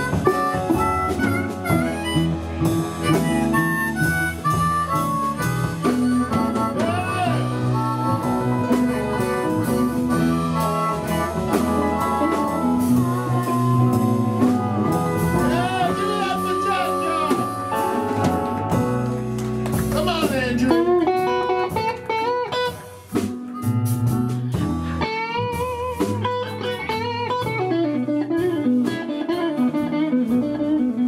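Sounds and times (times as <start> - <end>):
live blues band: 0.0 - 31.0.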